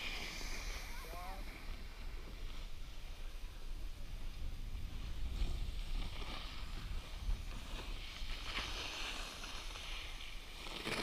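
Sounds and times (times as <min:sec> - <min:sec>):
board edges scraping snow: 0:00.0 - 0:03.2, 0:04.4 - 0:11.0
wind rumble on microphone: 0:00.0 - 0:10.6.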